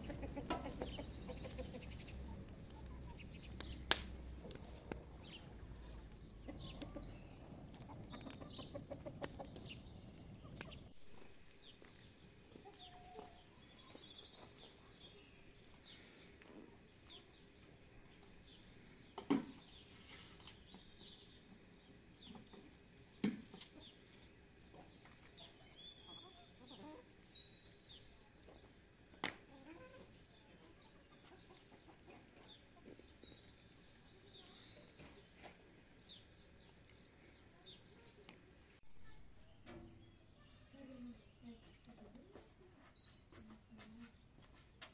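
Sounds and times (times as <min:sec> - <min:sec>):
chickens clucking: 0:00.0 - 0:27.3, 0:27.9 - 0:40.1.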